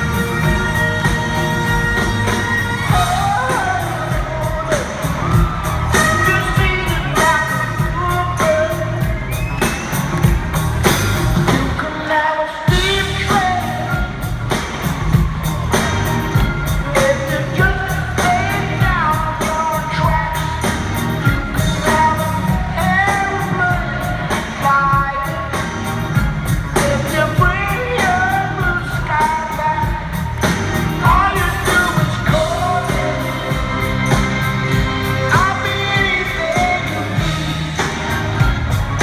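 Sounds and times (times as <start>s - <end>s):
lead vocal singing: 0.0s - 10.1s, 11.4s - 39.0s
live rock band playing: 0.0s - 39.0s.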